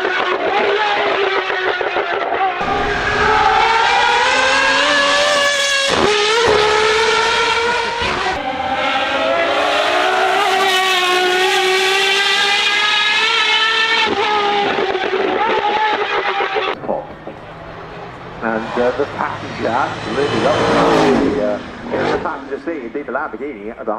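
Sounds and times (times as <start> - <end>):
car engine accelerating hard: 0.0 - 23.7.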